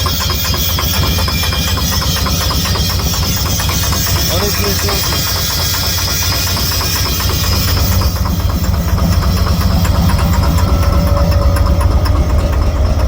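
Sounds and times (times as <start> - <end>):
hiss: 0.0 - 11.0
car engine knocking: 0.0 - 13.0.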